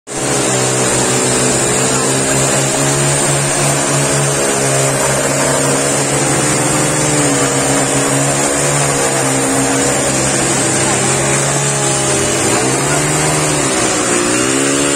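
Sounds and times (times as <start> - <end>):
small engine running: 0.1 - 14.9.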